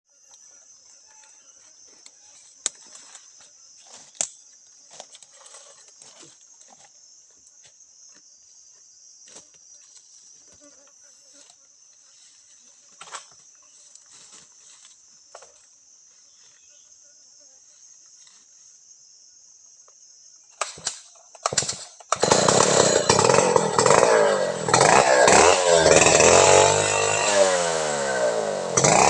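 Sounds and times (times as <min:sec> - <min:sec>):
high-pitched insect chorus: 0:00.1 - 0:27.7.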